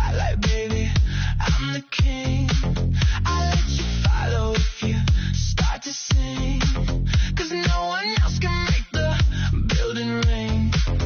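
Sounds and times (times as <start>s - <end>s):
electronic dance-pop music: 0.0s - 11.0s.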